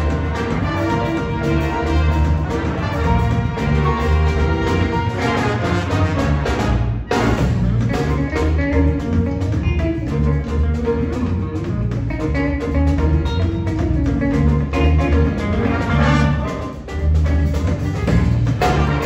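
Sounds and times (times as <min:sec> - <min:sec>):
jazz big band playing: 0:00.0 - 0:19.0
repeating bass line: 0:00.0 - 0:19.0.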